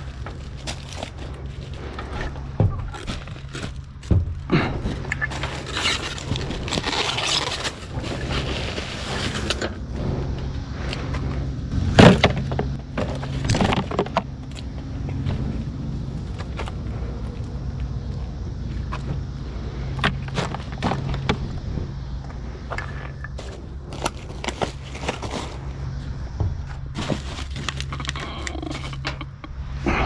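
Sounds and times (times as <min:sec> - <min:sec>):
low hum: 0:00.0 - 0:30.0
scrap metal clanking and scraping: 0:00.0 - 0:30.0.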